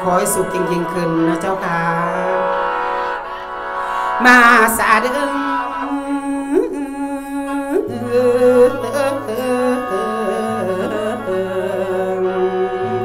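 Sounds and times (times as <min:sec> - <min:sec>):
free-reed mouth organ melody: 0:00.0 - 0:13.0.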